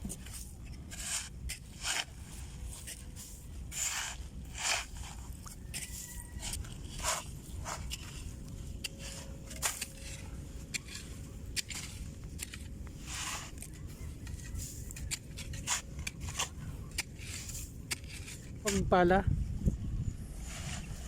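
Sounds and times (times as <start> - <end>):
shovel digging into sand: 0.0 - 19.0.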